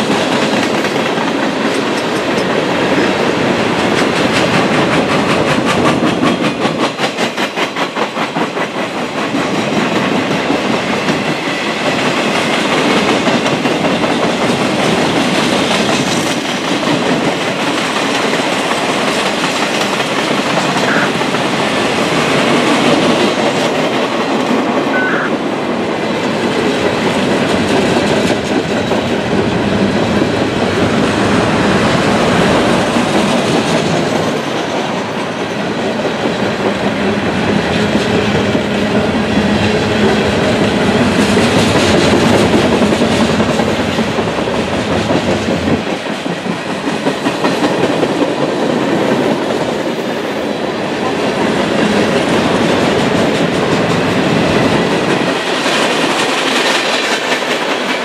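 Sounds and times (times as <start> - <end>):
steel wheels rumbling on rail: 0.0 - 58.0
wheels clickety-clack over rail joints: 0.0 - 58.0.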